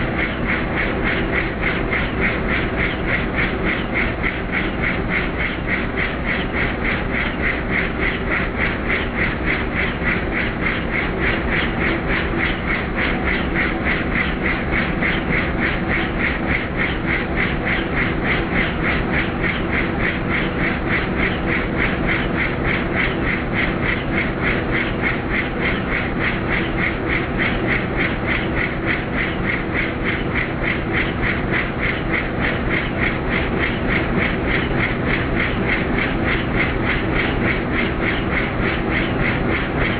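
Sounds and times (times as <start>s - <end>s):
engine drone: 0.0s - 39.9s
helicopter rotor chopping: 0.0s - 39.9s.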